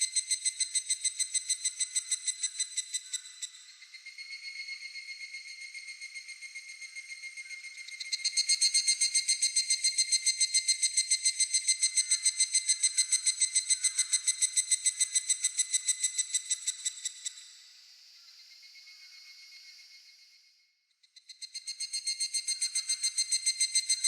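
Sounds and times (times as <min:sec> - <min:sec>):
cicada pulsed trill: 0:00.0 - 0:20.4, 0:21.0 - 0:24.0.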